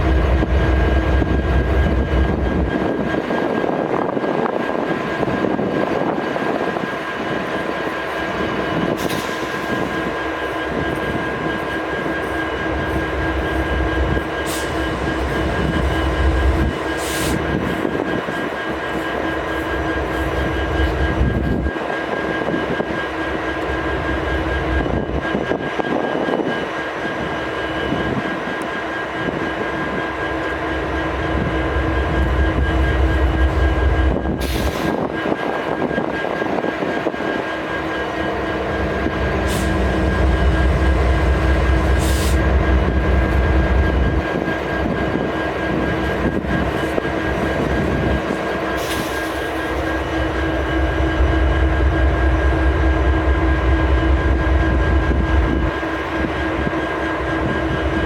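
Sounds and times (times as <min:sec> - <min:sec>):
locomotive engine drone: 0:00.0 - 0:58.0.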